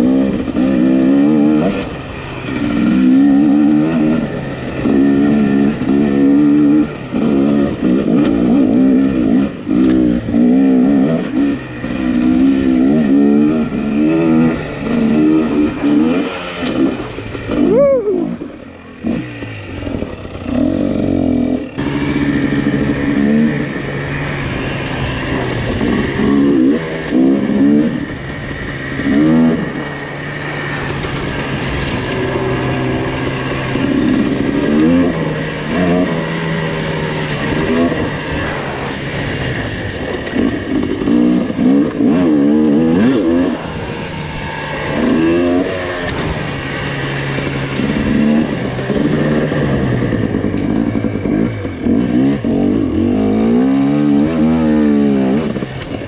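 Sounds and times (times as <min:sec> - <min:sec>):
two-stroke dirt bike engine revving: 0:00.0 - 0:56.0.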